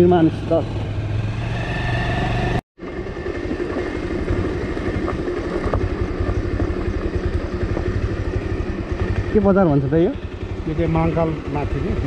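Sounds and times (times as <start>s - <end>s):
motorcycle engine throbbing: 0.0s - 12.0s
road and wind noise: 0.0s - 12.0s.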